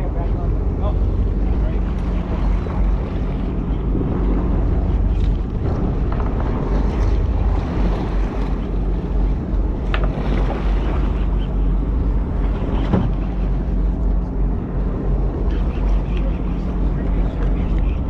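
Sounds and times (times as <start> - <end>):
boat engine humming: 0.0 - 18.0
sea washing around hull: 0.0 - 18.0
wind buffeting microphone: 0.0 - 18.0.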